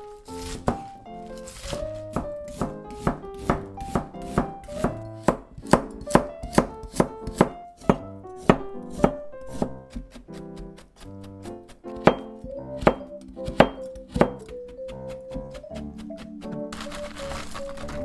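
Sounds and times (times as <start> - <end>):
knife chopping on plastic board: 0.4 - 17.0.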